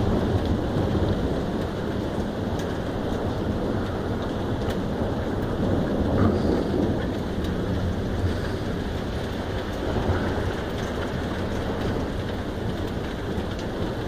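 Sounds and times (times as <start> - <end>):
heavy rain falling: 0.0 - 14.0
rolling thunder: 0.0 - 14.0.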